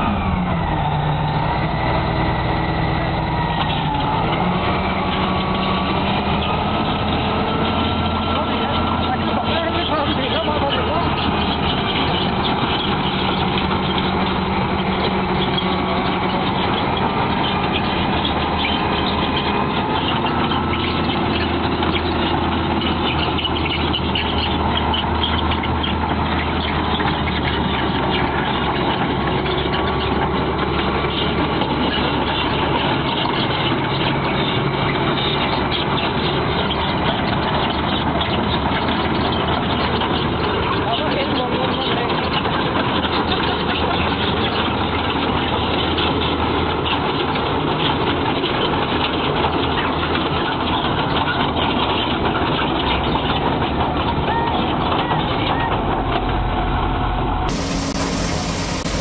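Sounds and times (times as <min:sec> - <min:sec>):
construction machine engine running: 0:00.0 - 0:59.0.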